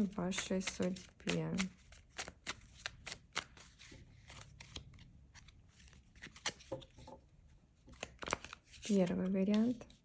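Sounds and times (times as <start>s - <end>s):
cards being shuffled: 0.0s - 7.0s, 7.9s - 10.0s.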